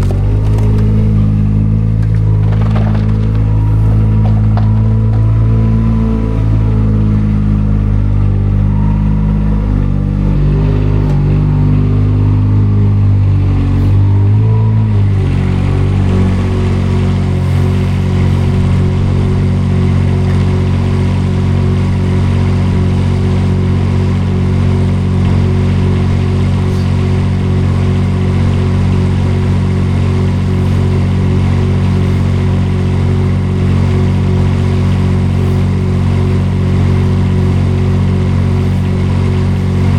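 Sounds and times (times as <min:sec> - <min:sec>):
front loader engine running: 0:00.0 - 0:39.9.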